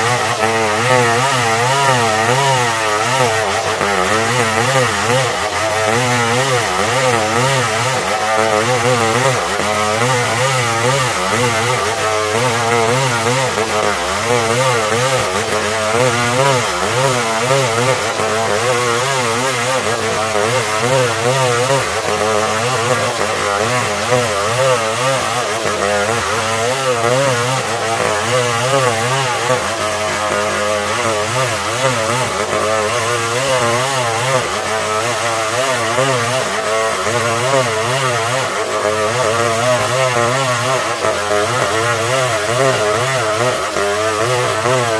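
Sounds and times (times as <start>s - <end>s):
chainsaw sawing timber: 0.0s - 44.9s.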